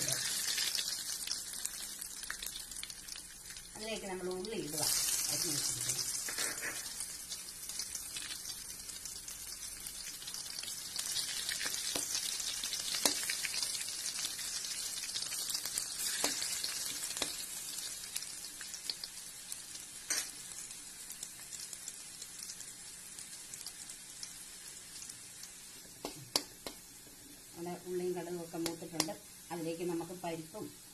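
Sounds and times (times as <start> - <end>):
food sizzling in hot oil: 0.0 - 30.9.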